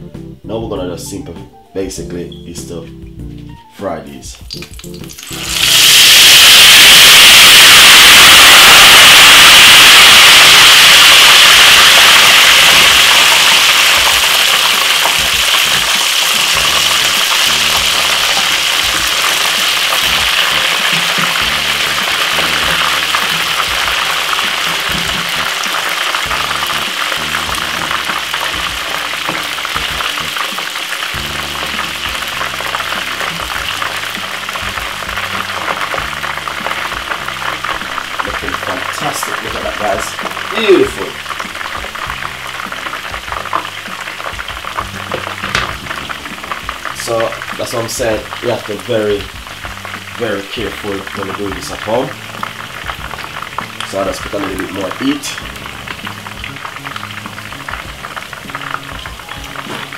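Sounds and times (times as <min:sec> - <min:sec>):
plantain slices sizzling in oil: 0:04.4 - 0:59.9.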